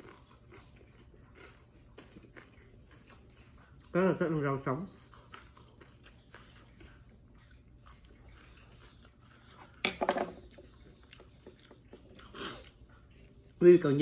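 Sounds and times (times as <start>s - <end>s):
crunchy chewing: 0.0s - 9.8s, 10.4s - 13.9s.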